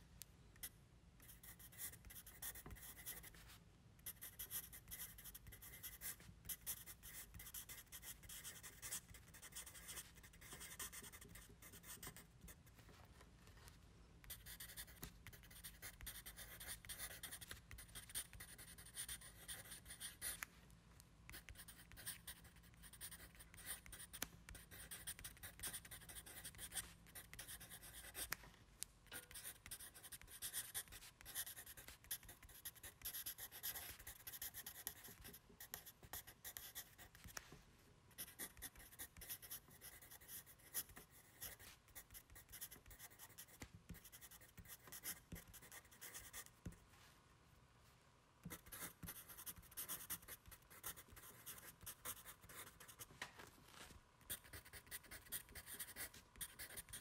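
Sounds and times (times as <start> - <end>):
low steady hum: 0.0 - 57.0
pen scratching on paper: 1.2 - 3.4, 4.0 - 12.2, 14.3 - 20.4, 21.3 - 28.3, 29.2 - 37.4, 38.2 - 46.8, 48.4 - 53.0, 54.3 - 57.0.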